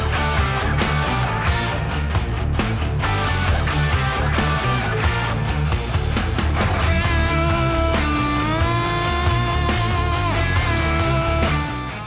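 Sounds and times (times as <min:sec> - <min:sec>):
heavy bass line: 0:00.0 - 0:12.0
rock lead guitar line: 0:00.0 - 0:12.0.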